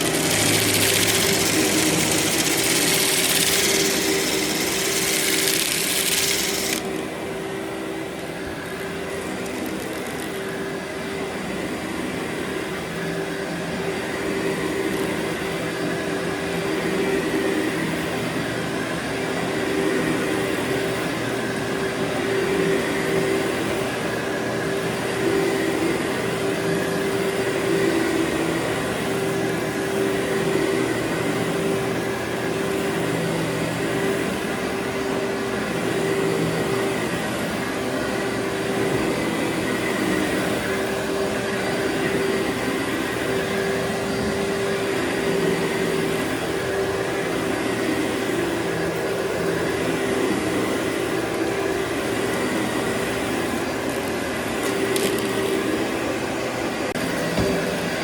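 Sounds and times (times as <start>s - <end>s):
vacuum cleaner on carpet: 0.0s - 58.0s.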